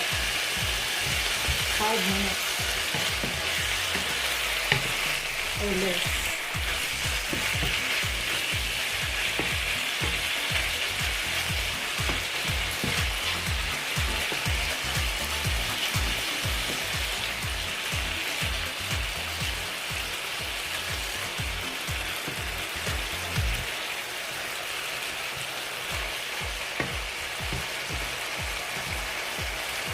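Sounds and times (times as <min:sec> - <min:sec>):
chicken sizzling in oil: 0:00.0 - 0:29.9.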